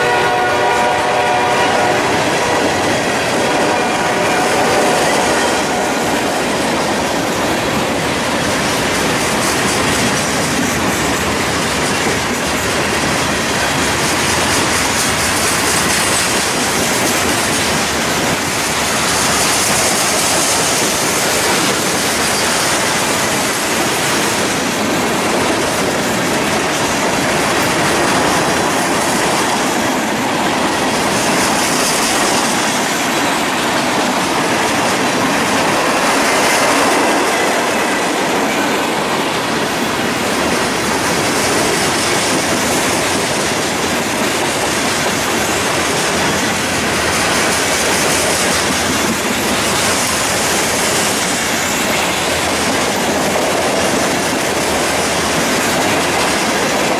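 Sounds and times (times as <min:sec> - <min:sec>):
steel wheels on rail: 0:00.0 - 0:56.9.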